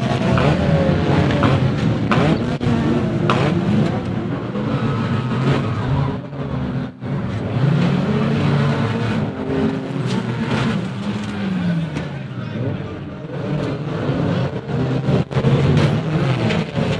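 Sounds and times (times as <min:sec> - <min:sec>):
racing car engines revving: 0:00.0 - 0:16.9.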